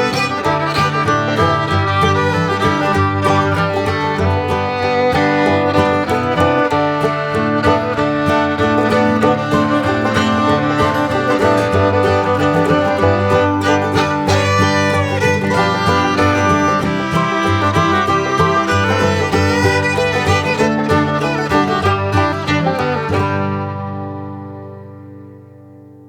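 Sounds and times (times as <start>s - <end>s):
upbeat acoustic string music: 0.0s - 25.4s.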